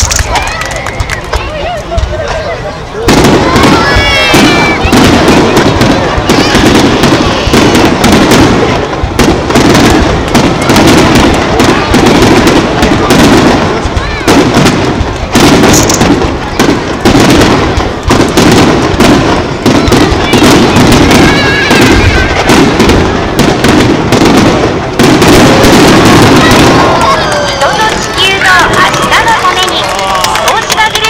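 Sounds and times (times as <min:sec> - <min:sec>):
firework shells bursting: 0:00.0 - 0:01.5, 0:03.1 - 0:31.0.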